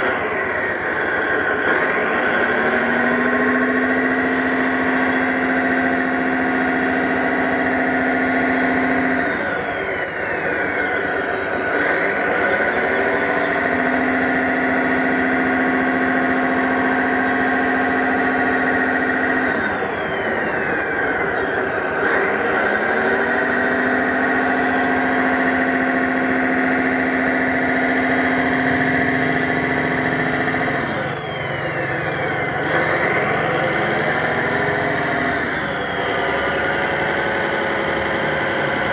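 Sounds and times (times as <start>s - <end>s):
model tractor motor hum: 0.0s - 38.9s.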